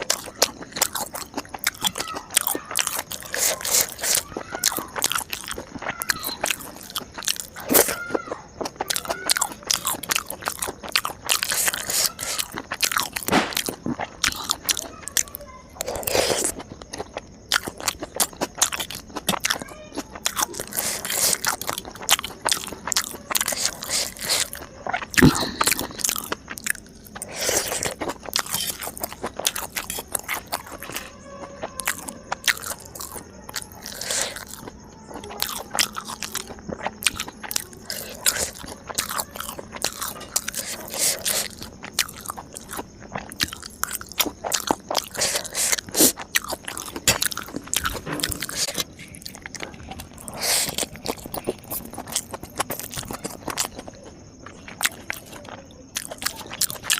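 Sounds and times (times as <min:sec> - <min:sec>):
crunchy chewing of food: 0:00.0 - 0:56.9.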